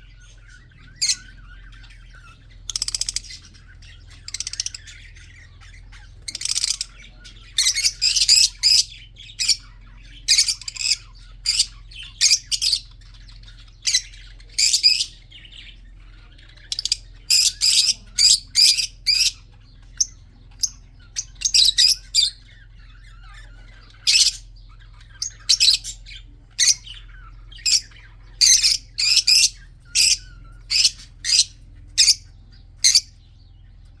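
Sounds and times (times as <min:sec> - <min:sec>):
budgerigars chirping and squawking: 0:00.0 - 0:34.0
faint low hum: 0:00.0 - 0:34.0.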